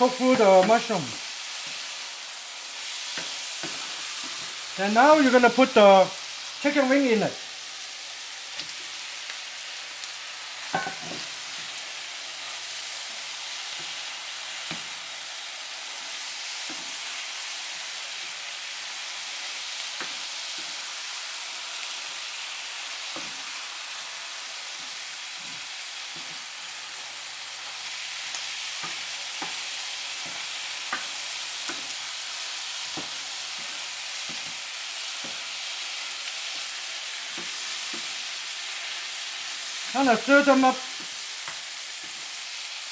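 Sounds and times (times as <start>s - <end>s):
wings sizzling in a pan: 0.0s - 42.9s.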